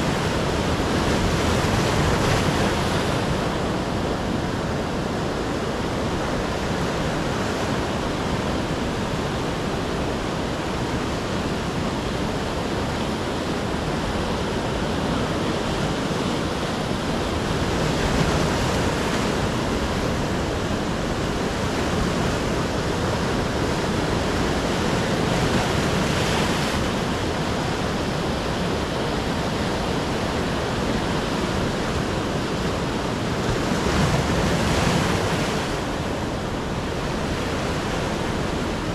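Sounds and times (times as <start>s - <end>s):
surf breaking on rocky shore: 0.0s - 38.9s.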